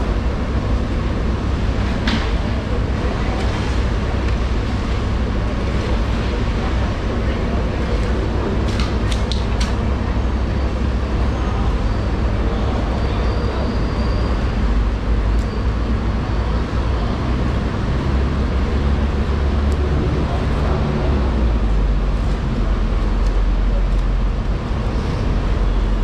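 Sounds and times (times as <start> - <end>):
machinery rumbling: 0.0 - 26.0.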